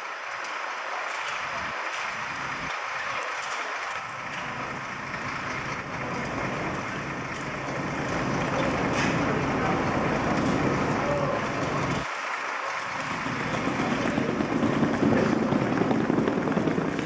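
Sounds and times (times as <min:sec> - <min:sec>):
heavy vehicle engine rumble: 0:01.2 - 0:12.1, 0:12.8 - 0:17.0.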